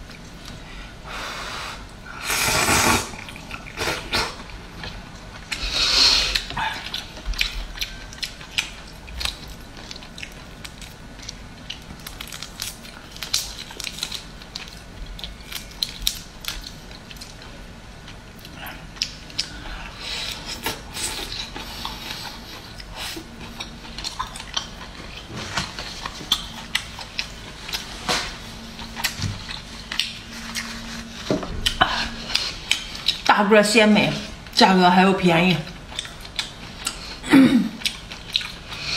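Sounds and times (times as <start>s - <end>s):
chewing: 3.2s - 33.3s, 35.7s - 38.9s.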